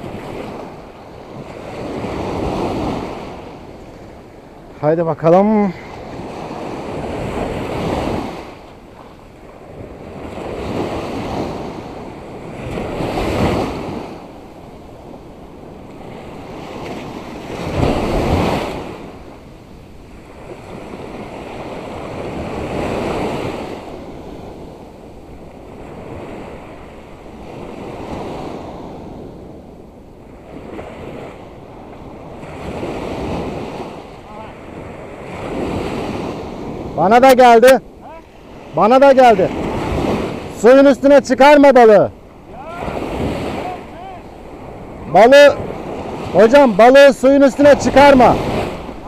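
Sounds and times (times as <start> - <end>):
waves breaking on beach: 0.0 - 49.0.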